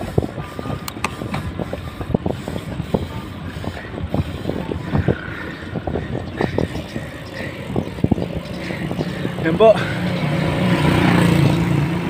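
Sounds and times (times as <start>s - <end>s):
bike knocking and rattling: 0.0s - 11.0s
wind rushing over microphone: 0.0s - 12.0s.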